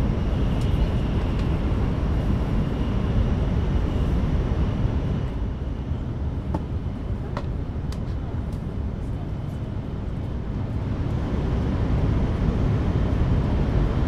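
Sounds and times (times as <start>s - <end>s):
train wheels and air rumble: 0.0s - 14.0s.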